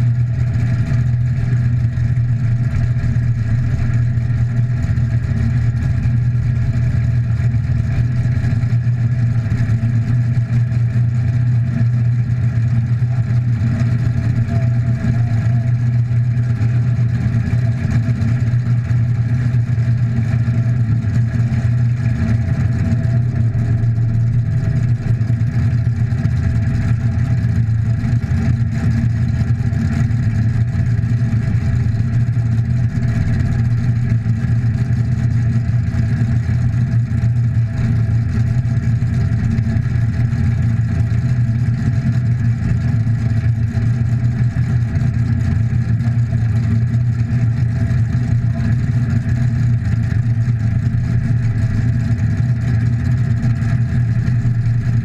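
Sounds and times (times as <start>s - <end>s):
car engine idling: 0.0s - 55.0s
other car engines running: 0.0s - 55.0s.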